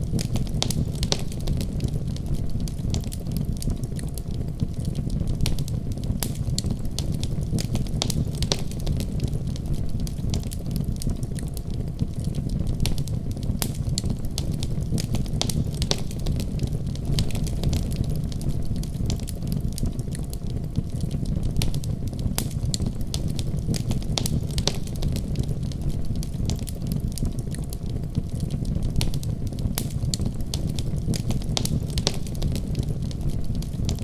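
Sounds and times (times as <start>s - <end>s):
fire crackling and popping: 0.0s - 34.0s
fire rumbling: 0.0s - 34.0s.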